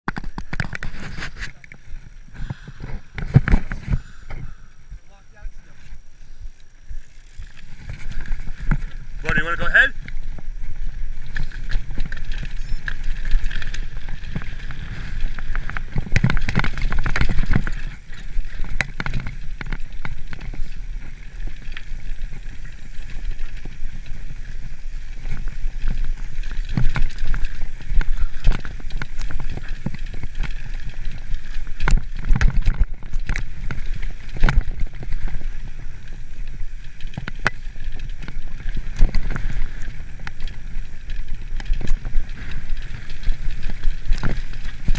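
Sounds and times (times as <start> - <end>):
bike tyres on dirt: 0.0 - 44.9
bike knocks and rattles: 0.1 - 1.6, 7.2 - 44.9
wind rumble on microphone: 0.1 - 44.9.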